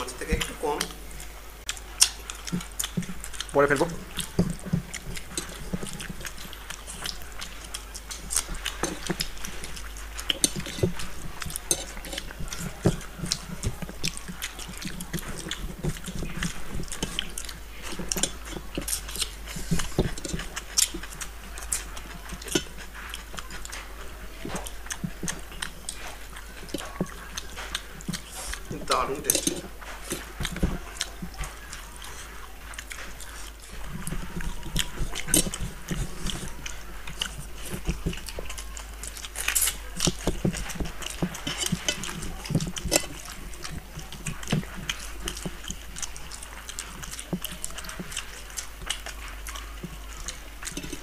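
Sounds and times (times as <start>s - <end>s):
faint low hum: 0.0s - 51.0s
fingers mixing rice on steel plates: 0.0s - 51.0s
wet chewing and mouth clicks: 0.0s - 51.0s.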